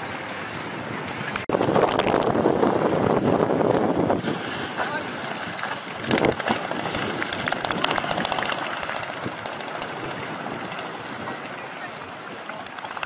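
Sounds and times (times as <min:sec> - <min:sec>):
water splashing and rushing: 0:00.0 - 0:13.0
wind buffeting microphone: 0:00.0 - 0:13.0.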